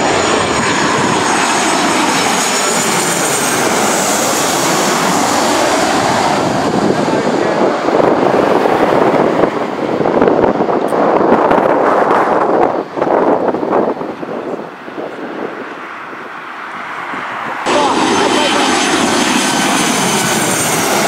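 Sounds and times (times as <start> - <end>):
jet engines passing low overhead: 0.0 - 21.0.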